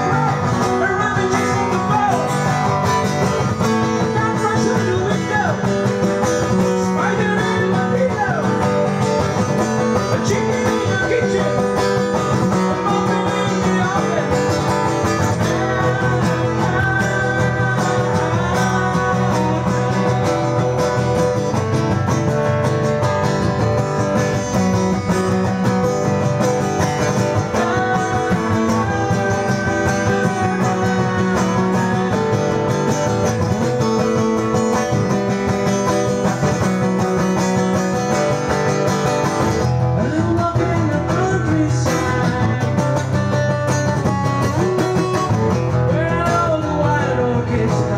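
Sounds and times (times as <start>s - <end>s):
acoustic guitar strummed and picked: 0.0s - 47.9s.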